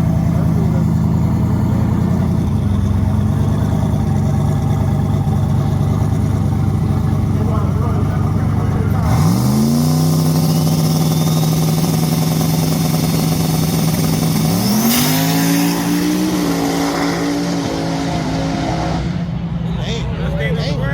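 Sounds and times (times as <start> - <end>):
car engine revving: 0.0 - 20.6.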